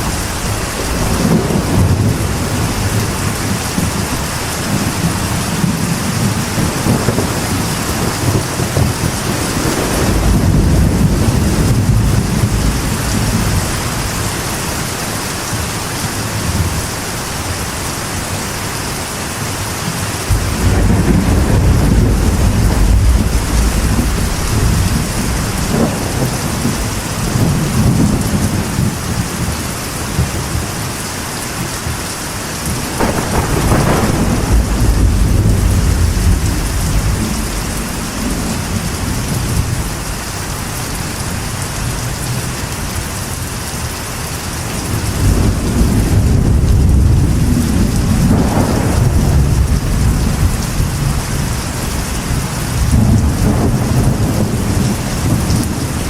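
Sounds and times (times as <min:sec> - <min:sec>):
deep thunder rumbling: 0:00.0 - 0:15.0, 0:20.2 - 0:30.8, 0:31.6 - 0:43.4, 0:44.7 - 0:56.0
rain drumming on a metal roof: 0:00.0 - 0:56.0.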